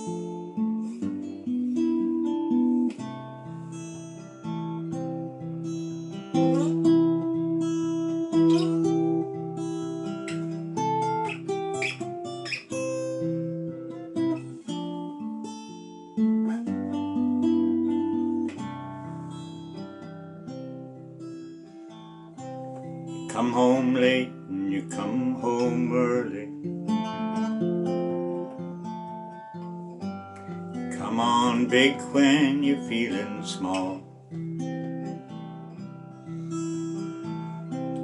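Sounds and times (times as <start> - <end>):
acoustic guitar chords: 0.0 - 38.0.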